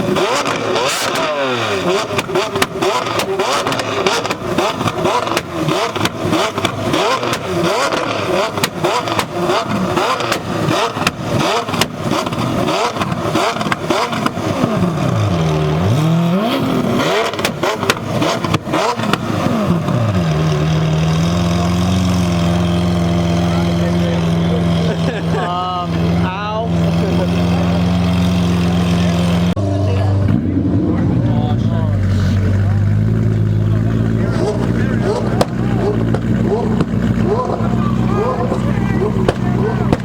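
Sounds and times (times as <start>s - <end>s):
exhaust pops and crackles: 0.0s - 25.3s, 25.9s - 40.0s
car engines revving: 0.0s - 40.0s.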